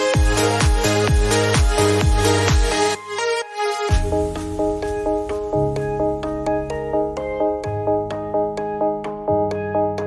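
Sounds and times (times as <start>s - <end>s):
electronic music with synth and bass: 0.0s - 10.0s.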